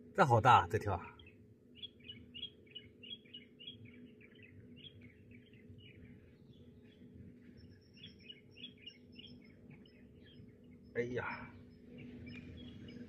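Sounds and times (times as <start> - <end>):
small bird chirping: 1.1 - 13.0.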